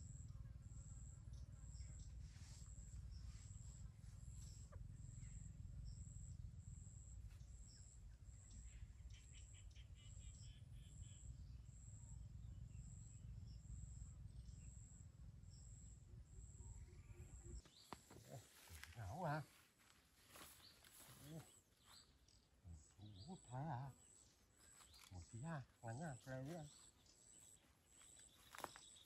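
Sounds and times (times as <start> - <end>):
faint bird chatter: 0.0 - 29.0
insect chirping: 0.0 - 29.0.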